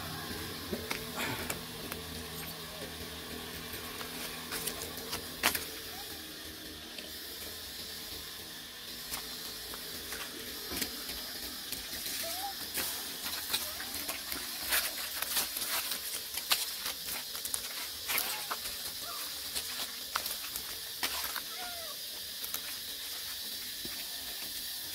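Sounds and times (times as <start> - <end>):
dry leaves crackling and rustling: 0.0 - 24.9.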